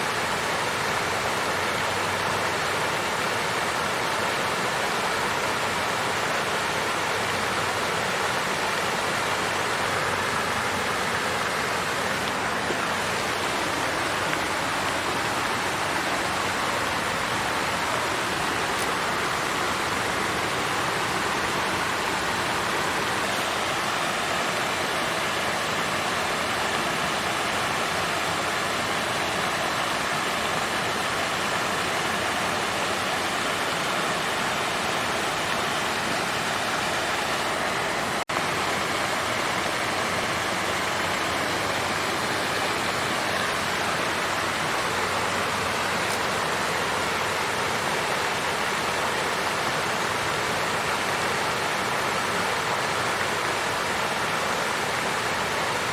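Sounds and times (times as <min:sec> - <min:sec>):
water fountain splashing: 0:00.0 - 0:55.9.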